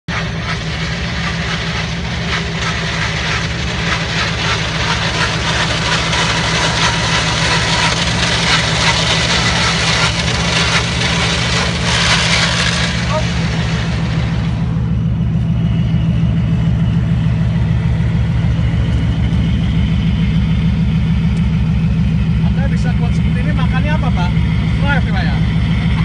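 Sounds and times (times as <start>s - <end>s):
engine running steadily: 0.0s - 26.0s
steady rushing noise: 0.1s - 26.0s.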